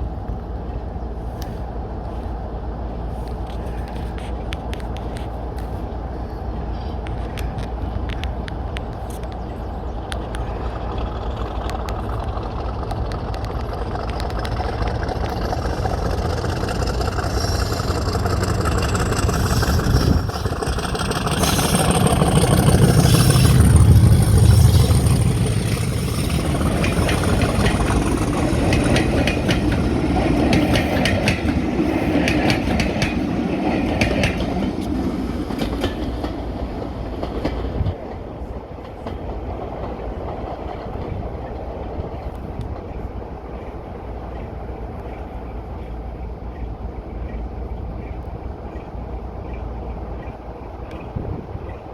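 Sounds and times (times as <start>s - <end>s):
diesel train engine rumble: 0.0s - 51.9s
wheels clicking over rail joints: 6.6s - 51.9s.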